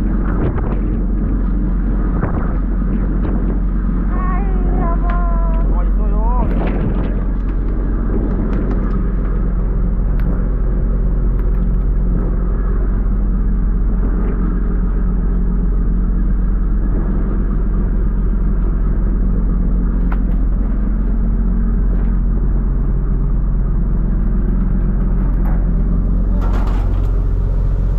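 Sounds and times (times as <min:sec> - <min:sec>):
boat engine running: 0:00.0 - 0:27.9.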